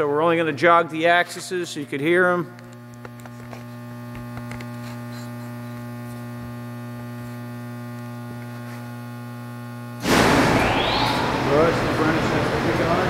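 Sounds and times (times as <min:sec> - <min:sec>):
mill motor electric hum: 0:00.0 - 0:13.0.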